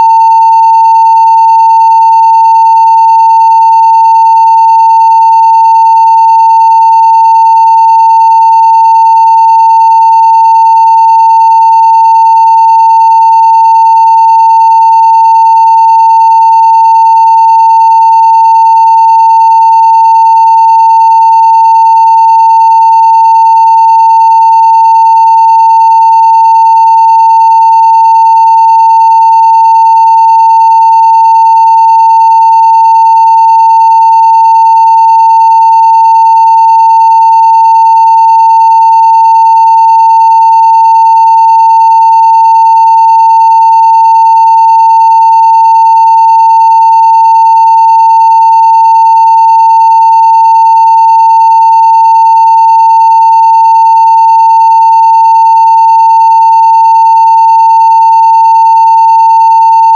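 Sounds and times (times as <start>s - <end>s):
sine wave test tone: 0.0s - 59.9s.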